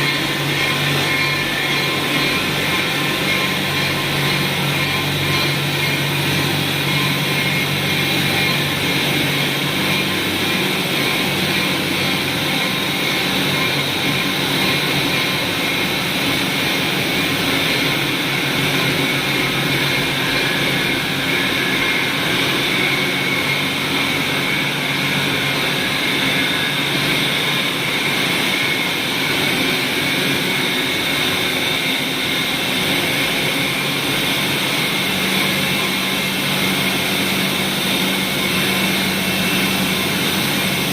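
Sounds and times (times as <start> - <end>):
machinery humming: 0.0 - 40.9.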